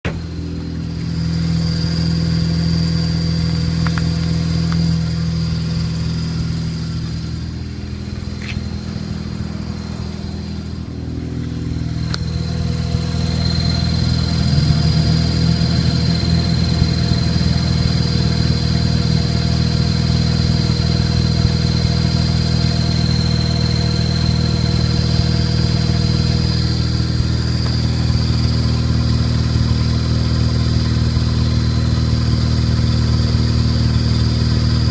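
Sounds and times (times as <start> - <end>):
high-pitched clutch chirp: 0.1 - 30.0
rotary engine running: 0.1 - 34.9.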